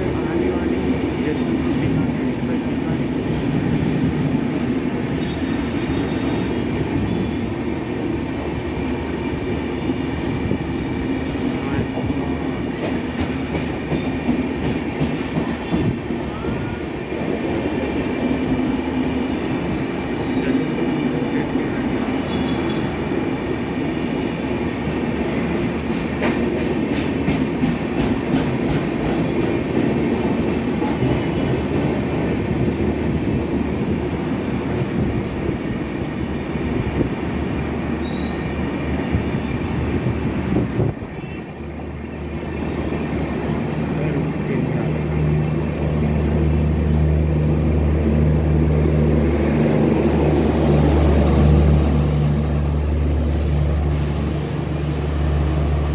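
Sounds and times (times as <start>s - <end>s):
train wheels rumbling on track: 0.0s - 55.9s.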